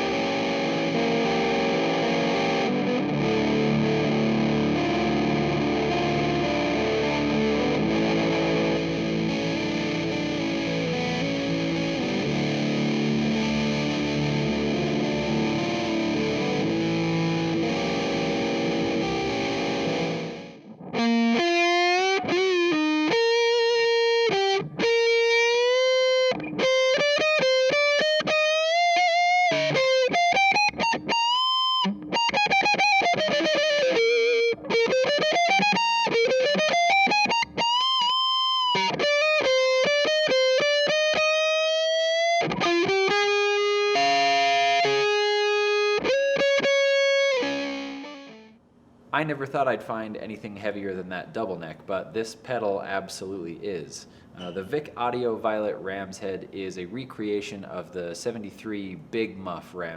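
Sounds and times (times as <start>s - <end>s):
electric guitar lead lines: 0.0s - 48.6s
fuzzed electric guitar chords: 0.0s - 49.8s.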